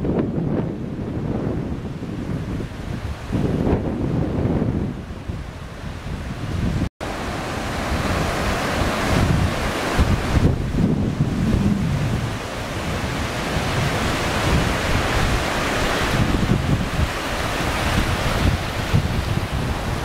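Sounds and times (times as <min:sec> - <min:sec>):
ocean surf breaking: 0:00.0 - 0:20.0
wind buffeting the microphone: 0:00.0 - 0:20.0.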